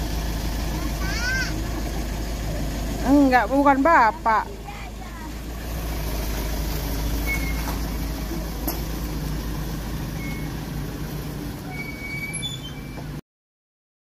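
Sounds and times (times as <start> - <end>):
truck engine rumbling: 0.0 - 13.2.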